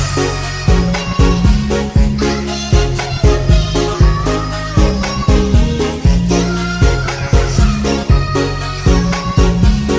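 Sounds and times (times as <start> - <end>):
upbeat background music: 0.0 - 9.9.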